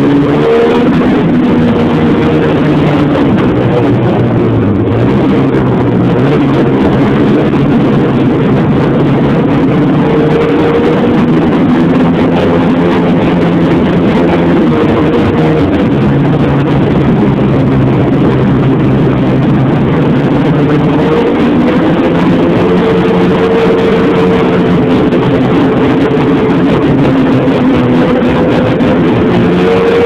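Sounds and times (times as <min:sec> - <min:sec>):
snowmobile engine running: 0:00.0 - 0:30.0.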